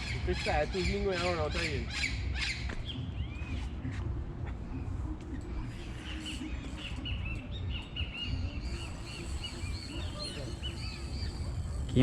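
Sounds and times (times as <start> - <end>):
birds chirping: 0.0 - 12.0
steady low rumble: 2.2 - 12.0.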